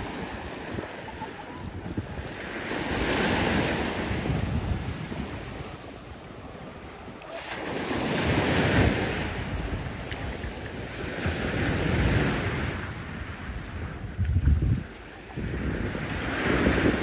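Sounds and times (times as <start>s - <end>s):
wind rumbling on microphone: 0.0s - 7.3s, 8.0s - 17.0s
small waves breaking: 0.0s - 17.0s.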